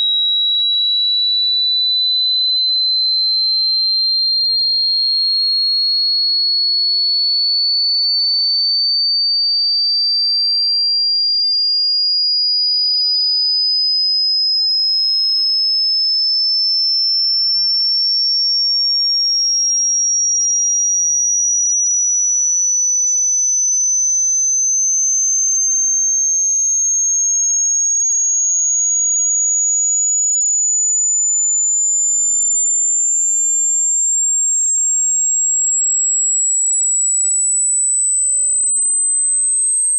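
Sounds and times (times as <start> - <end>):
rising sine test tone: 0.0 - 39.9.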